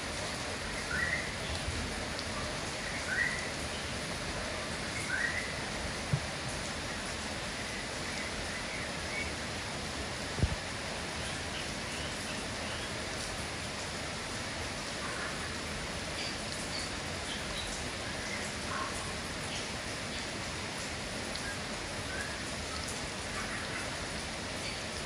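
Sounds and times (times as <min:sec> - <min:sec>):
rain hiss: 0:00.0 - 0:25.0.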